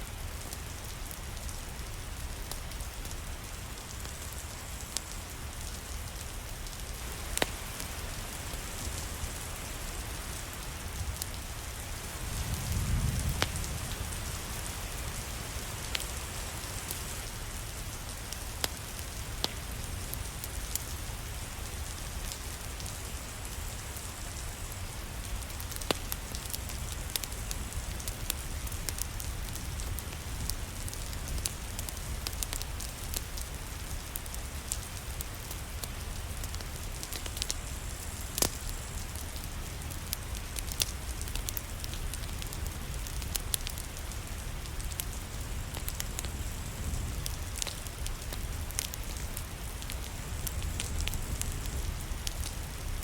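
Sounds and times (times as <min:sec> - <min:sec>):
rain hiss: 0:00.0 - 0:53.0
wood fire crackling: 0:00.0 - 0:53.0.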